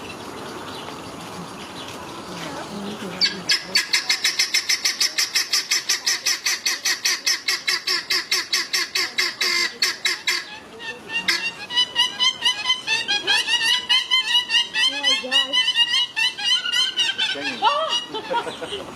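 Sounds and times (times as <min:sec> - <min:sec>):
high chirping calls: 0:00.0 - 0:18.8
guinea fowl cackling: 0:03.2 - 0:18.9.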